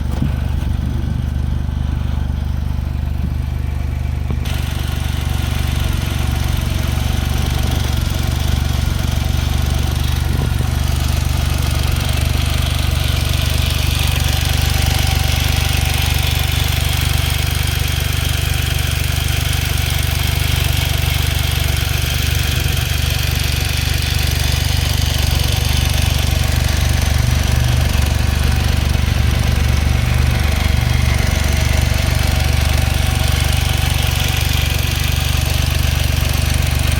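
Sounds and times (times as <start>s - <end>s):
car engine idling with clatter: 0.0s - 36.9s.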